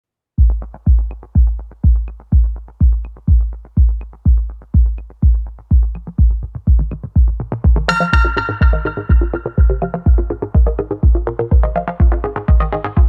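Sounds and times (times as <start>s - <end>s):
drum machine kick drum: 0.4s - 13.0s.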